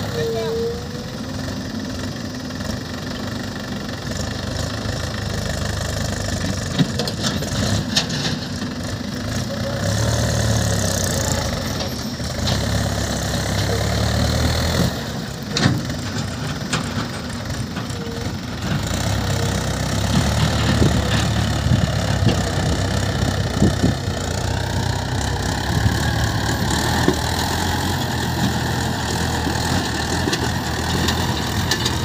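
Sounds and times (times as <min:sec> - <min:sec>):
diesel engines running: 0:00.0 - 0:32.0.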